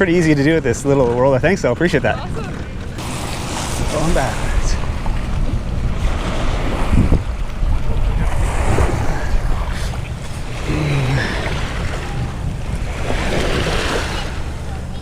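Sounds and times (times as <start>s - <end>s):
wind buffeting microphone: 0.0s - 15.0s
water washing at shore: 1.8s - 15.0s.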